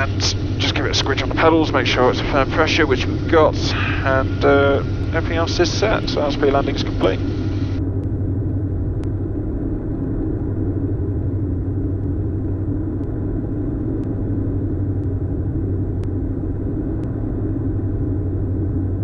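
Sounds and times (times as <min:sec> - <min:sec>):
airplane cabin engine drone: 0:00.0 - 0:19.0.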